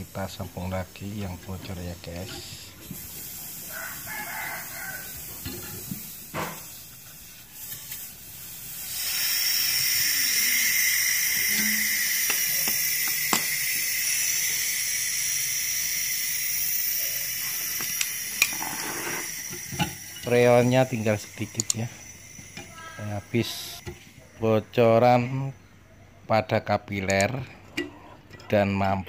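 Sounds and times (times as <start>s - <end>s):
refrigerant gas hissing: 0.0s - 25.8s.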